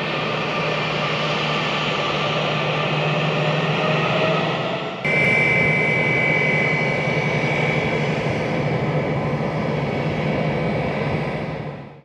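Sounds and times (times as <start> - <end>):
jet engines whining: 0.0 - 11.9.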